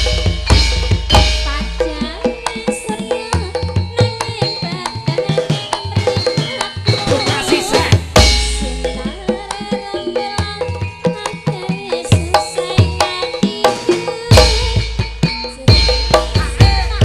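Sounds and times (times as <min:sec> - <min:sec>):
ringing bronze metallophones: 0:00.0 - 0:17.0.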